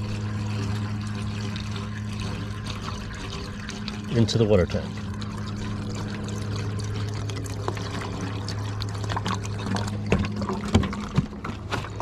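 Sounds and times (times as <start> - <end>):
liquid pouring from plastic jug: 0.0 - 12.0
steady low hum: 0.0 - 12.0.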